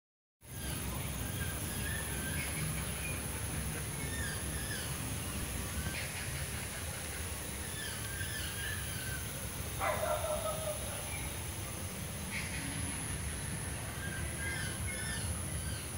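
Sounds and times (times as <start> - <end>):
steady high hiss: 0.4 - 15.9.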